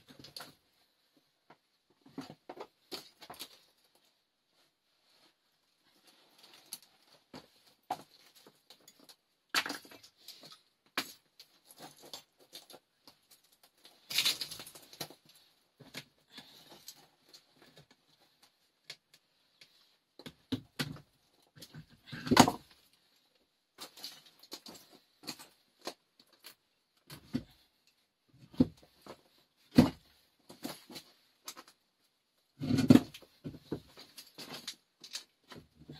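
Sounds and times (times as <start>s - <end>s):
hands handling materials: 0.0s - 35.9s.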